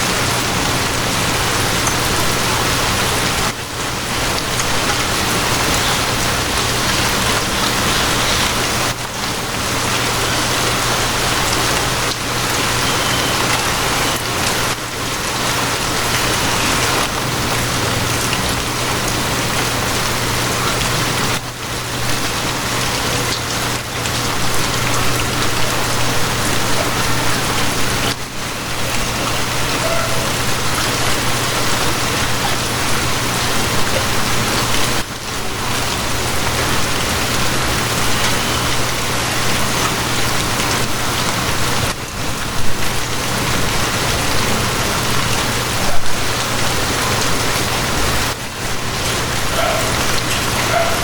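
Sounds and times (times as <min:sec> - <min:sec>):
rain drumming on a surface: 0:00.0 - 0:51.0.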